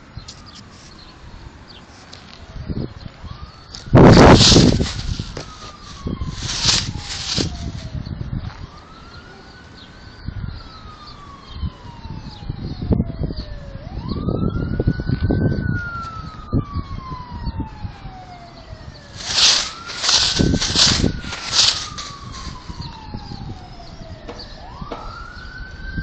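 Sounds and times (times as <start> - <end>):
emergency siren wailing: 0.0 - 26.0.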